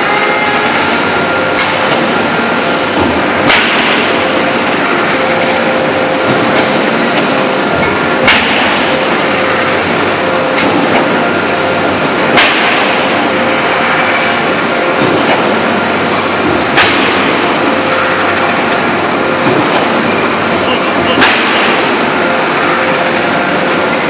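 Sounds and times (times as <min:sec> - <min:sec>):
forging press machinery drone: 0:00.0 - 0:24.0.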